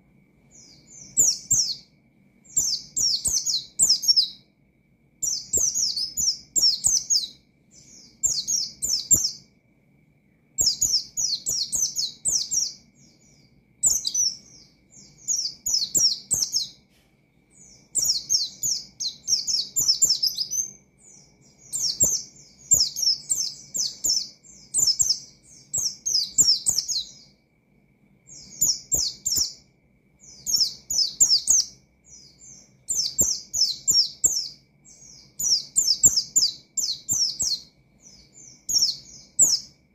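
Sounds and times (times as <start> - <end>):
bird singing high chattering song: 0.0 - 4.6, 5.2 - 27.5, 28.2 - 39.9.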